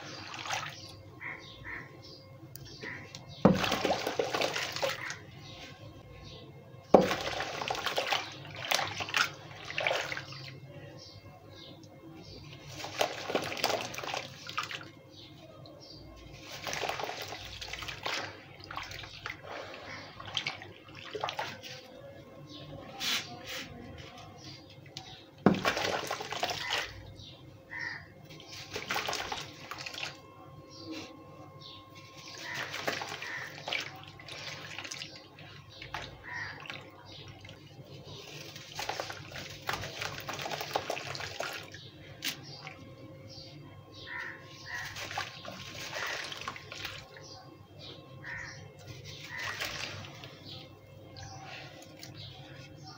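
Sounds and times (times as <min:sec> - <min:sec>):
water sloshing and splashing: 0:00.0 - 0:02.0, 0:02.6 - 0:10.8, 0:12.2 - 0:43.1, 0:44.0 - 0:52.9.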